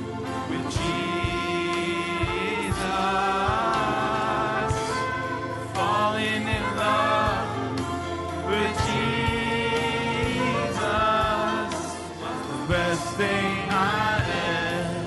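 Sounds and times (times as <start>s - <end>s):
musical accompaniment: 0.0s - 15.0s
man singing into microphone: 0.4s - 7.7s, 8.4s - 15.0s.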